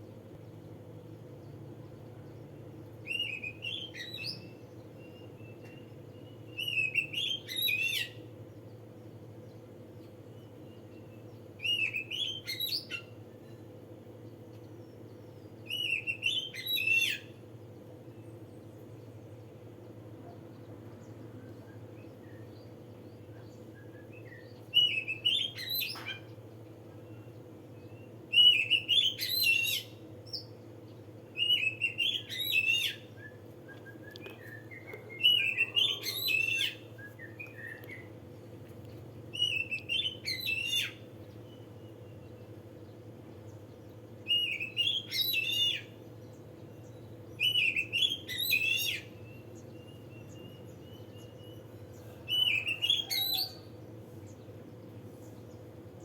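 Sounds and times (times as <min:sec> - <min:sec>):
steady low hum: 0:00.0 - 0:07.5, 0:08.1 - 0:52.8, 0:53.5 - 0:56.0.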